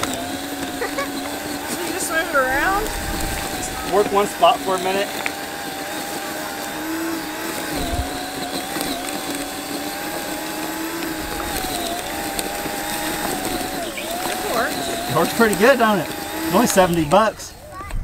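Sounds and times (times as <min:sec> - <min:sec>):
tines churning soil: 0:00.0 - 0:17.8
electric tiller motor whine: 0:00.0 - 0:18.0.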